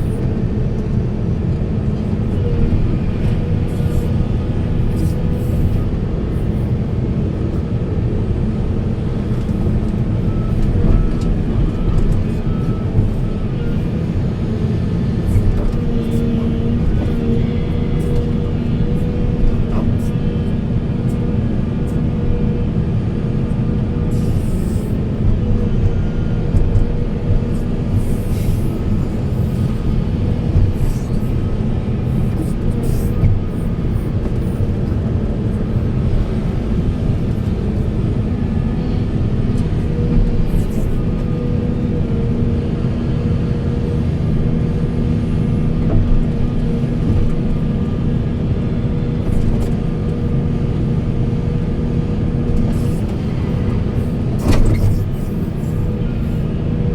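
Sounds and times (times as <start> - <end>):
excavator diesel engine rumbling: 0.0 - 56.9.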